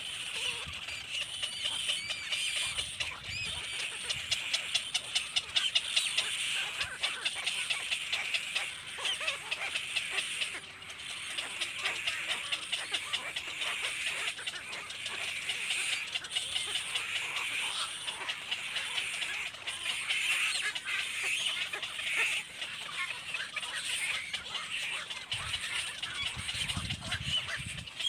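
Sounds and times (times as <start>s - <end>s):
rapid ticking bird calls: 0.0s - 28.0s
baby birds cheeping: 0.1s - 28.0s.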